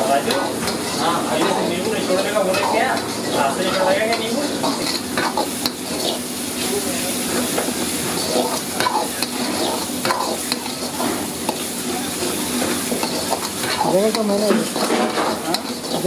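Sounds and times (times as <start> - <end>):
vegetables sizzling in oil: 0.0 - 16.0
metal ladle scraping a wok: 0.2 - 6.4, 7.4 - 16.0.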